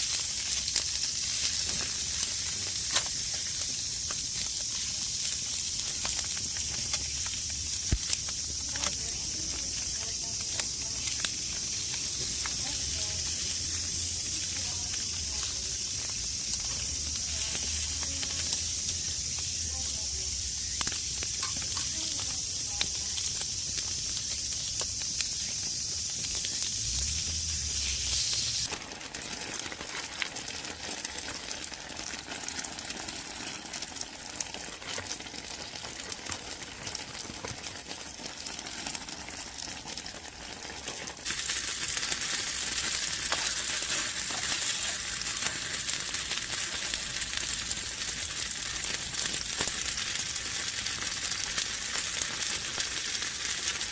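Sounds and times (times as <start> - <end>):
food sizzling in a pan: 0.0 - 53.9
wood fire crackling: 0.0 - 53.9.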